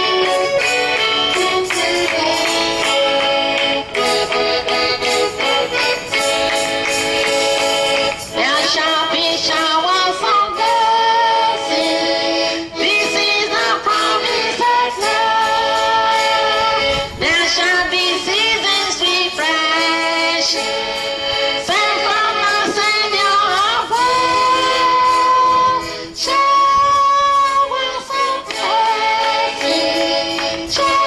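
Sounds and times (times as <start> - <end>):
accordion music: 0.0 - 31.0
person singing: 0.0 - 31.0.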